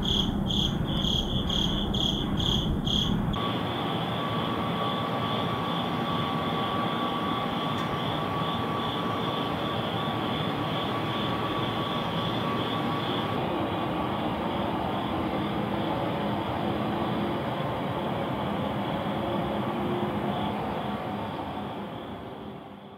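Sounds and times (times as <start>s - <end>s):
crickets chirping: 0.0s - 22.9s
distant city rumble: 0.0s - 22.9s.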